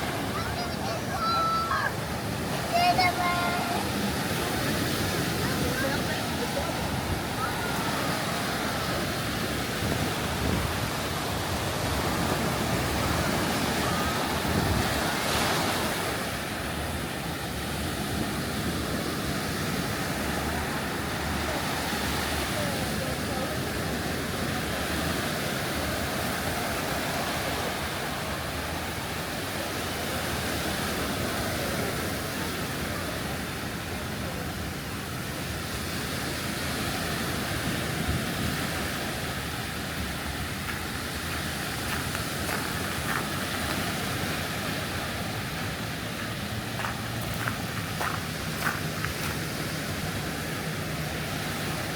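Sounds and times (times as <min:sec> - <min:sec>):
surf breaking on beach: 0:00.0 - 0:51.9
wind: 0:00.0 - 0:51.9.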